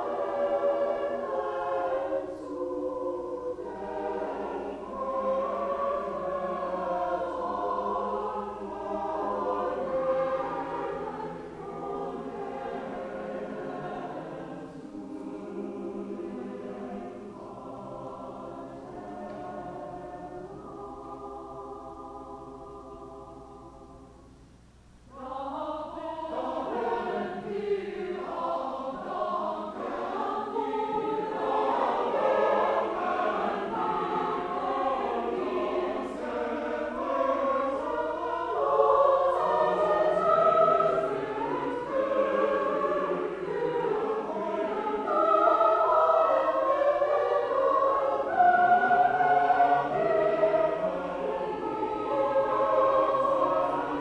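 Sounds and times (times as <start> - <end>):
mixed choir singing: 0.0 - 24.3, 25.1 - 54.0.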